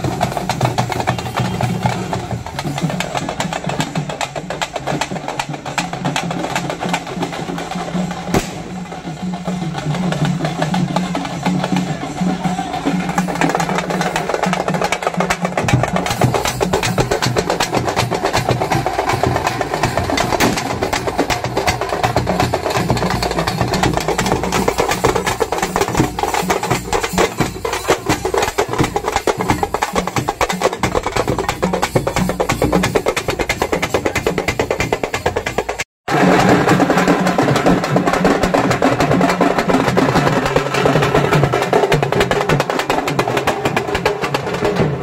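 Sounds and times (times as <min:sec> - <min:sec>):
barrel drum: 0:00.0 - 0:45.0
frame drums beaten with sticks: 0:00.0 - 0:45.0.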